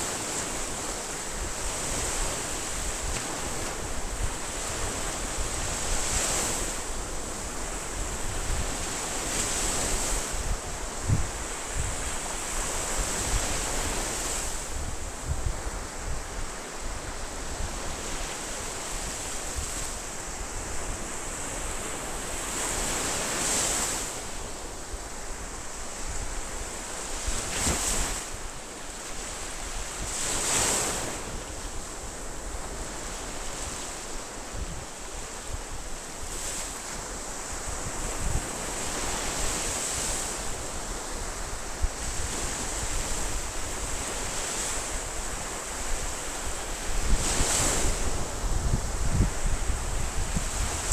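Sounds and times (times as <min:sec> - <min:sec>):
wind rumble on microphone: 0:00.0 - 0:28.6, 0:29.2 - 0:50.9
waves breaking on shore: 0:00.0 - 0:50.9.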